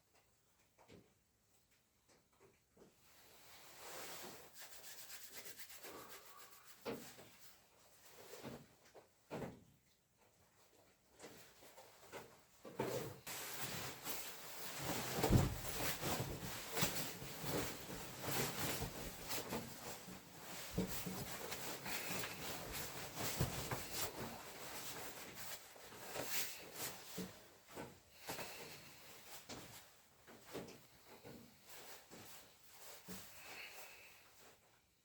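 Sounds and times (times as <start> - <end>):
rustling and rubbing: 3.0 - 8.8, 11.2 - 34.6.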